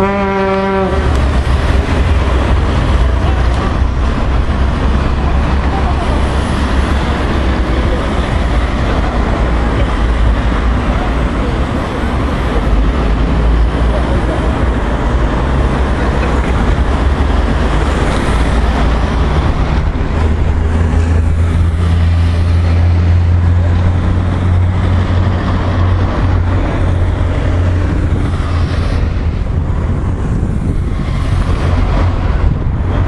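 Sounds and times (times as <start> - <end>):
cars driving past: 0.0 - 33.0
truck engine drone: 0.0 - 33.0.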